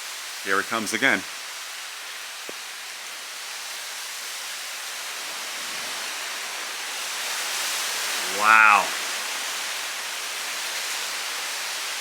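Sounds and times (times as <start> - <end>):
storm wind and rain: 1.1 - 12.0.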